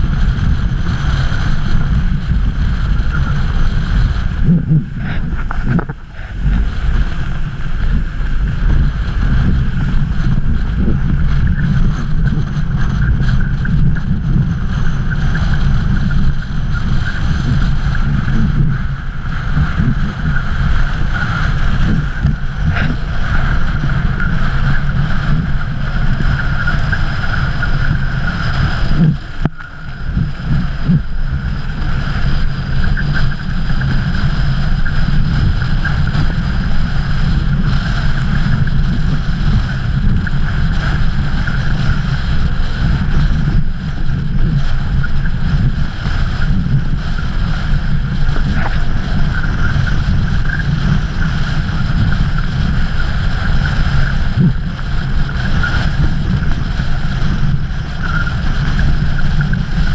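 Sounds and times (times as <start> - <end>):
board hissing over water: 0.0 - 59.9
wind buffeting microphone: 0.0 - 59.9.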